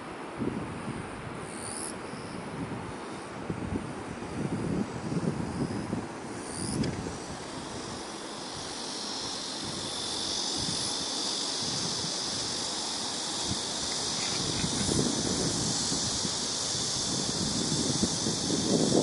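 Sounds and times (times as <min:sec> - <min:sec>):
high-pitched insect chorus: 0:00.0 - 0:19.0
wind gusts on microphone: 0:00.0 - 0:19.0.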